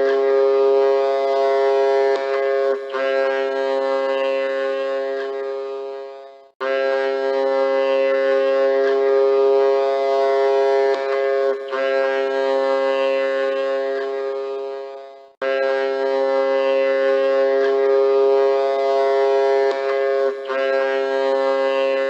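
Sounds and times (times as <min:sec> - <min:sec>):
music of long held chords: 0:00.0 - 0:22.0.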